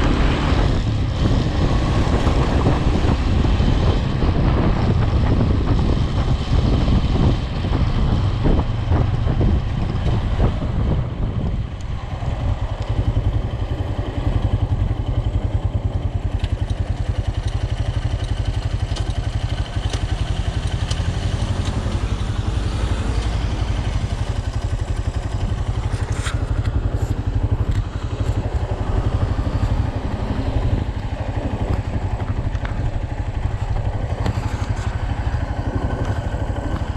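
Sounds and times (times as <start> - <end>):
vehicle engine rumbling: 0.0 - 36.9.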